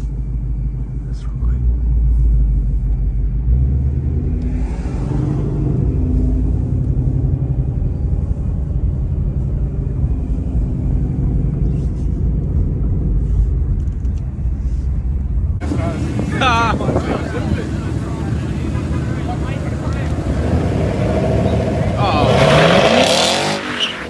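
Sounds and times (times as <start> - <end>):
car engine idling: 0.0 - 4.6, 5.5 - 24.0.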